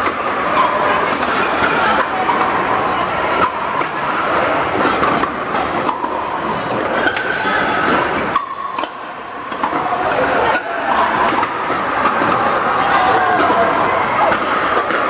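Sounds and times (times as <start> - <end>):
din of busy indoor hall: 0.0 - 15.0.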